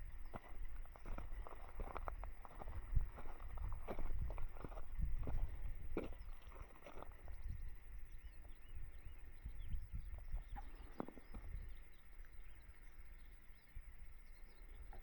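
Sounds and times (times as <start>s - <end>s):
low rumble of wind: 0.0s - 15.0s
small birds chirping: 0.0s - 15.0s.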